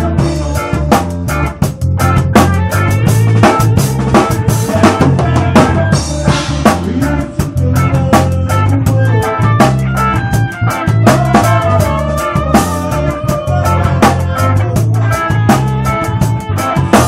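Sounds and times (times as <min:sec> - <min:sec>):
drum kit with cymbals: 0:00.0 - 0:17.0
rock band playing live: 0:00.0 - 0:17.0.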